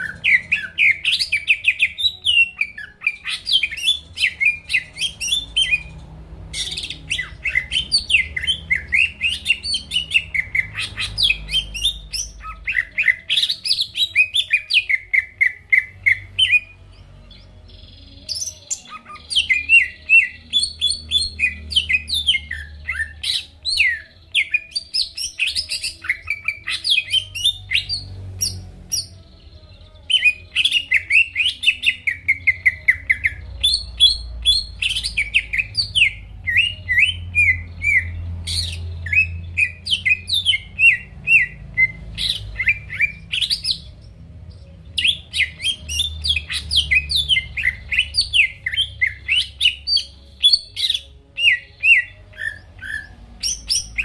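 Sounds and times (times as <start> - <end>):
bird singing chirps and whistles: 0.0 - 54.0.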